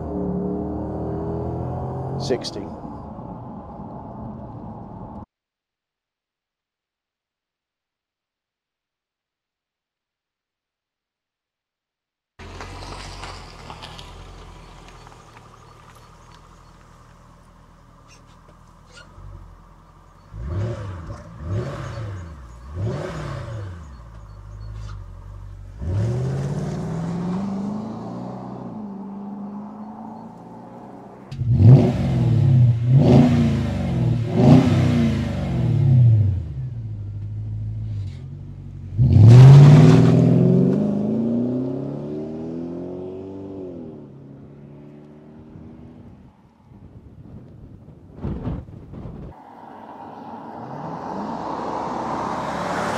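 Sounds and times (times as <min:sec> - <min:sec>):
car accelerating away: 0:00.0 - 0:05.2, 0:12.4 - 0:46.2, 0:49.4 - 0:52.9
car engine revving: 0:00.0 - 0:05.2, 0:12.4 - 0:46.2, 0:49.4 - 0:52.9.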